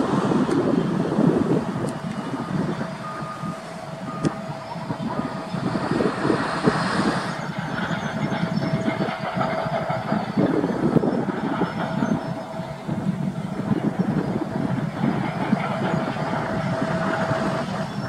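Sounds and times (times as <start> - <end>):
distant machinery rumble: 0.0 - 18.0.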